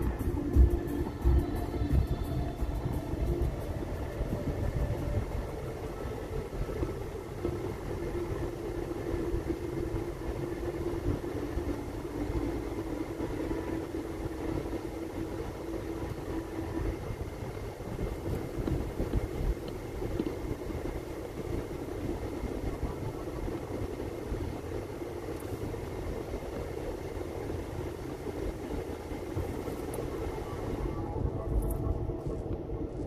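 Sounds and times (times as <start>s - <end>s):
steady hum: 0.0s - 33.0s
vehicle engine and tyres rumbling: 0.0s - 33.0s.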